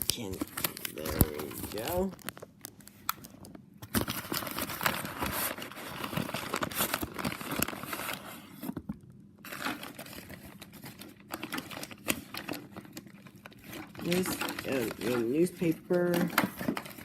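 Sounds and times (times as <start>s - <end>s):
newspaper crumpling and rustling: 0.0s - 8.8s, 9.4s - 17.0s.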